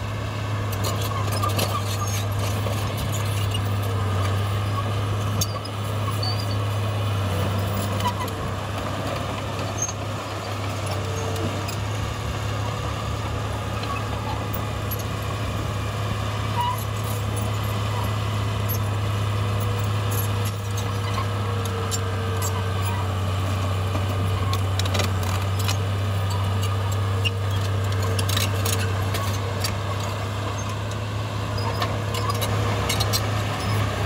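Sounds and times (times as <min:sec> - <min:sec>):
diesel machinery engine drone: 0:00.0 - 0:34.0.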